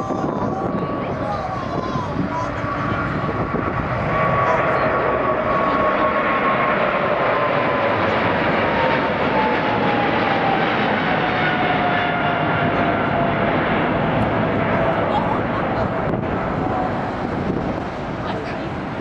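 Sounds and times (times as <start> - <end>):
jet engines running loudly: 0.0 - 19.0.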